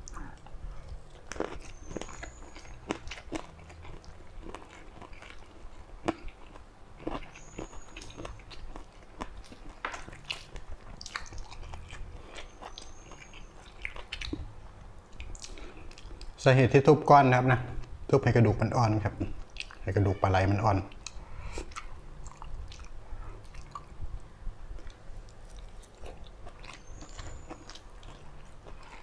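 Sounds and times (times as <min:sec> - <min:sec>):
chewing with wet mouth clicks: 0:00.0 - 0:16.4, 0:19.2 - 0:19.9, 0:20.9 - 0:29.0.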